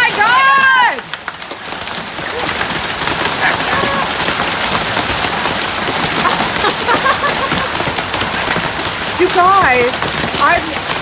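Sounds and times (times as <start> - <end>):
hailstones clattering: 0.0 - 11.0
heavy rain: 0.0 - 11.0.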